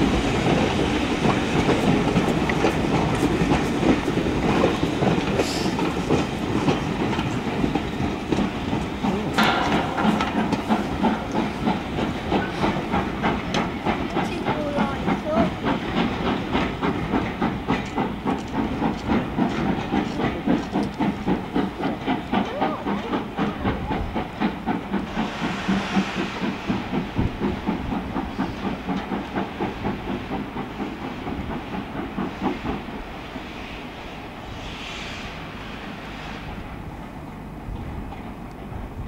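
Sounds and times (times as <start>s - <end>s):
steam hissing: 0.0s - 37.5s
steam locomotive exhaust beats: 0.0s - 39.0s.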